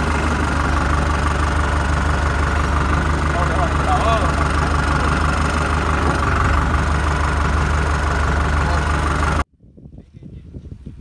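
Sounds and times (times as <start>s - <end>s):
tractor diesel engine running: 0.0s - 9.5s.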